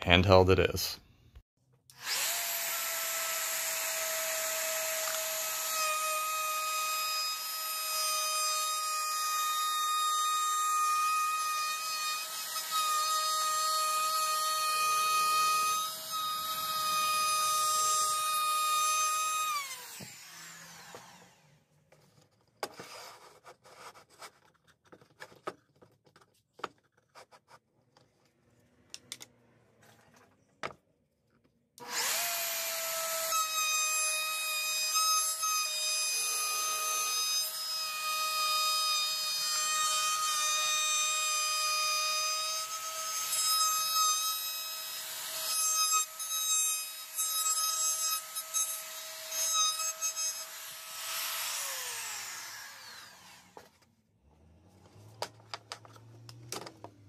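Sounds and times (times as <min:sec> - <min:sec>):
router whining: 0:01.9 - 0:23.2, 0:31.8 - 0:57.0.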